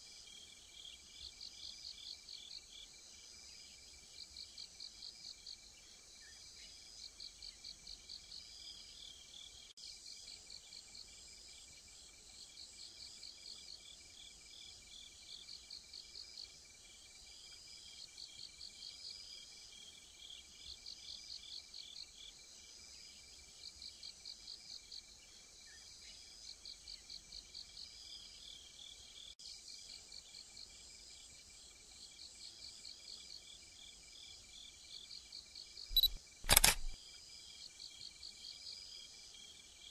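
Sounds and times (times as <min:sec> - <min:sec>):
cricket chirping: 0:00.0 - 0:39.9
faint insect chorus: 0:00.0 - 0:39.9.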